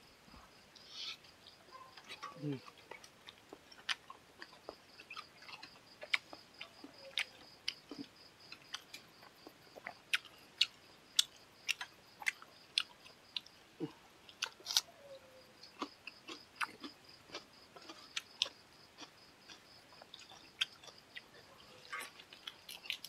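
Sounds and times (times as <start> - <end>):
wet chewing: 0.8 - 13.6, 15.6 - 23.0.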